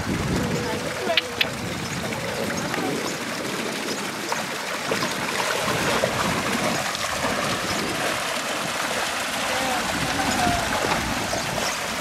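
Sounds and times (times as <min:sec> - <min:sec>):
horse swimming splashing water: 0:00.0 - 0:12.0.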